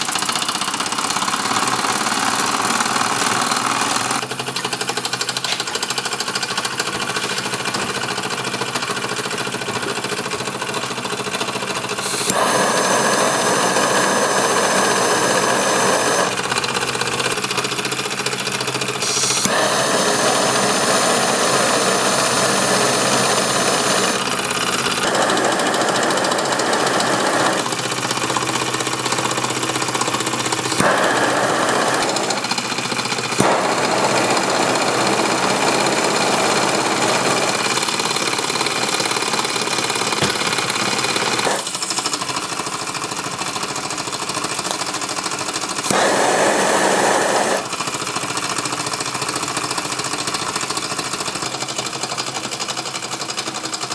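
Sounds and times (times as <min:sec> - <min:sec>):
toy steam engine running: 0:00.0 - 0:53.9.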